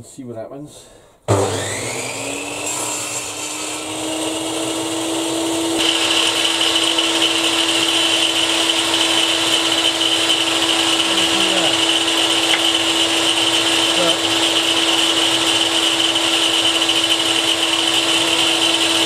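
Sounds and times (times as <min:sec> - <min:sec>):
electric saw cutting wood: 0:01.3 - 0:19.0.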